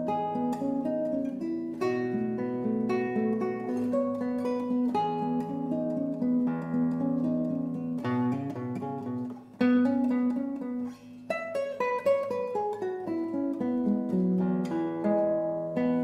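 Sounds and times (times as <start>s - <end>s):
fingerpicked classical guitar: 0.0s - 16.0s.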